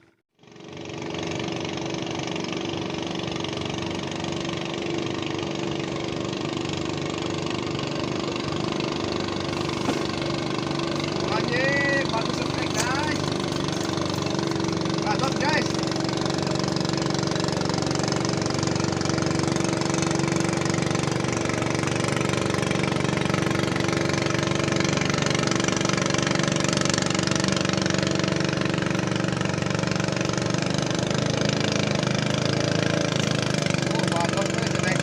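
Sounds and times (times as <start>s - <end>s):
motor engine running: 0.0s - 35.0s.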